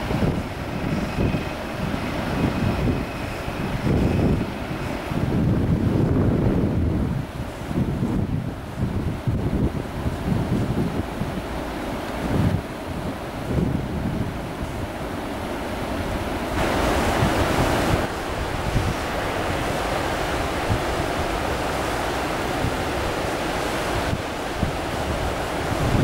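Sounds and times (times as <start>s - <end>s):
river rushing: 0.0s - 26.0s
wind buffeting microphone: 0.0s - 26.0s.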